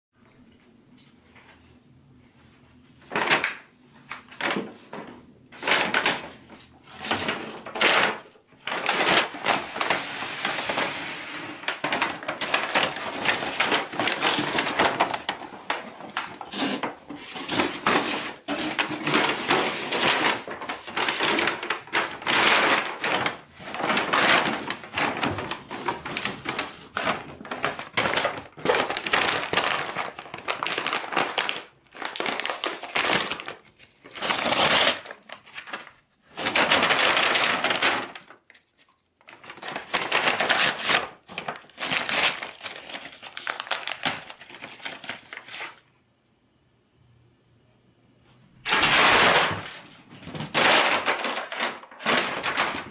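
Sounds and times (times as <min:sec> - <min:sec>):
paper bags crinkling and tearing: 0:03.0 - 0:45.8, 0:48.6 - 0:52.9.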